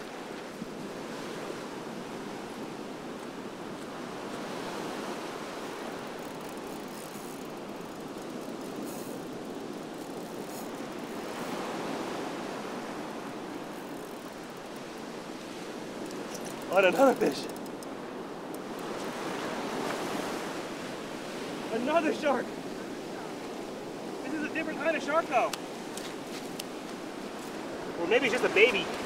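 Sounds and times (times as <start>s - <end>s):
surf breaking on shell beach: 4.0s - 29.0s.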